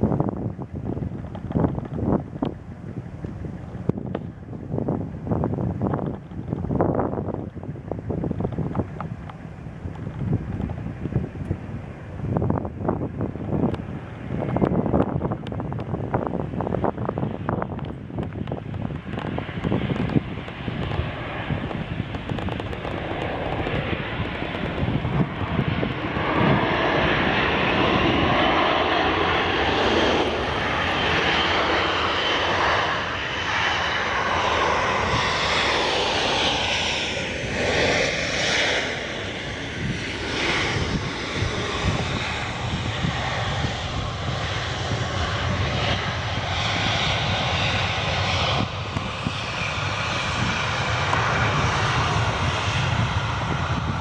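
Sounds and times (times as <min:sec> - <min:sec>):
airliner engines roaring past: 0:00.0 - 0:54.0.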